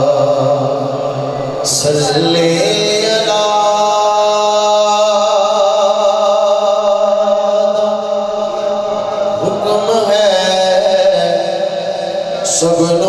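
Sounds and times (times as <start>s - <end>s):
man chanting through microphone: 0.0s - 13.0s.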